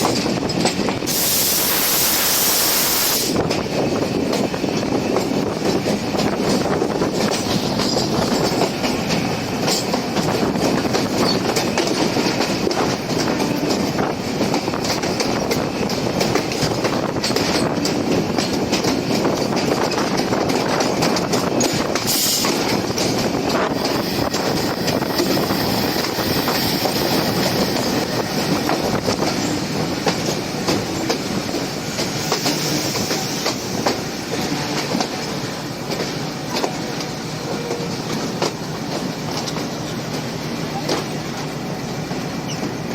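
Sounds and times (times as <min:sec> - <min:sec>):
rapid clickety-clack: 0:00.0 - 0:01.1, 0:03.3 - 0:42.9
train wheels rumbling on rails: 0:00.0 - 0:42.9.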